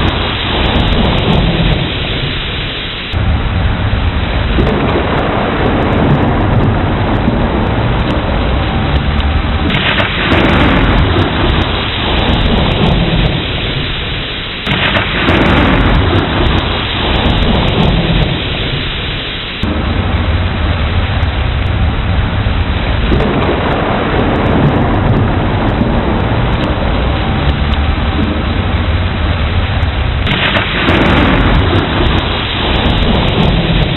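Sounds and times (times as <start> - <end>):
heavy rain: 0.0 - 33.9
rolling thunder: 0.0 - 33.9
thunderclap: 0.0 - 33.9.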